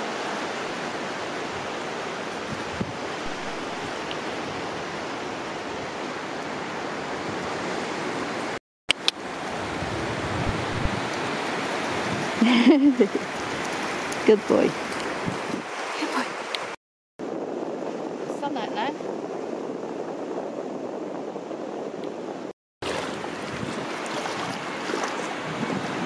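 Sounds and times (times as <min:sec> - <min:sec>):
sea surf on beach: 0:00.0 - 0:26.0
wind: 0:00.0 - 0:26.0.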